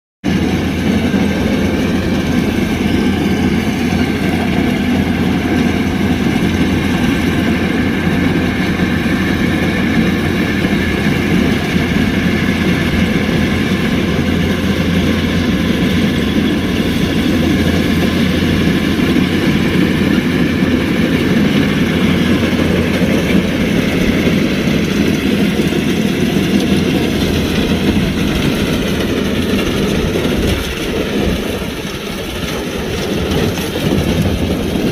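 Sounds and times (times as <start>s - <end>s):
combine harvester engine droning: 0.2s - 34.9s.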